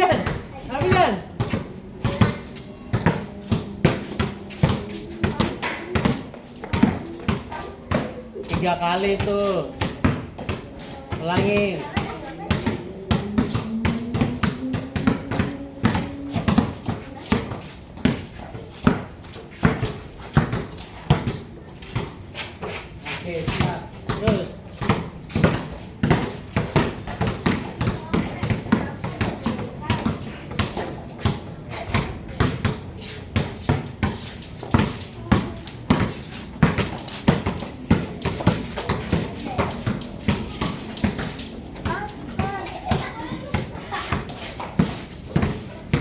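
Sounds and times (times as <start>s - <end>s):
basketball bouncing on hard court: 0.0s - 22.3s, 23.3s - 46.0s.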